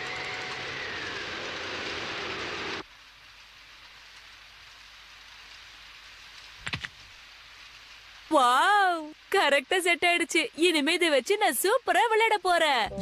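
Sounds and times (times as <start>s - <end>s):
faint hiss: 0.0s - 13.0s
heavy rain sound effect: 0.0s - 13.0s.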